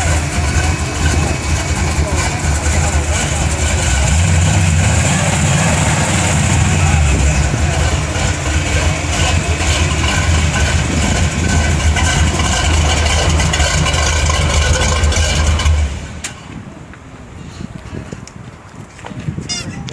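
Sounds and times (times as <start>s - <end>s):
truck engine idling: 0.0s - 16.6s.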